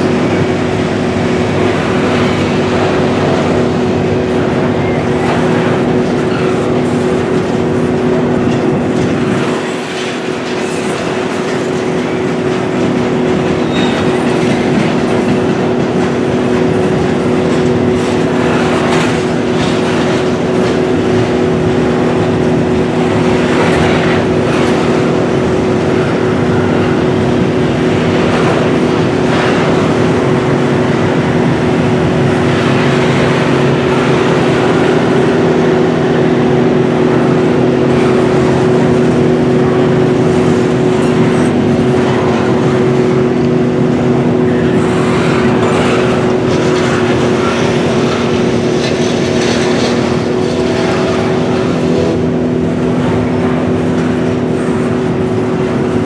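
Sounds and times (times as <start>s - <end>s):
low tonal hum: 0.0s - 56.0s
steel wheels rumbling on rail: 0.0s - 56.0s
train car clanking: 0.0s - 56.0s.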